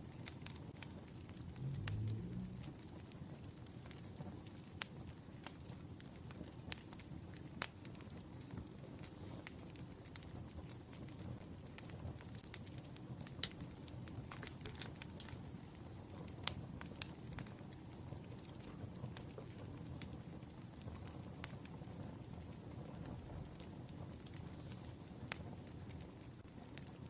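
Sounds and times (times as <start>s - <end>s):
low rush of burning logs: 0.0s - 27.0s
wood fire crackling: 0.0s - 27.0s.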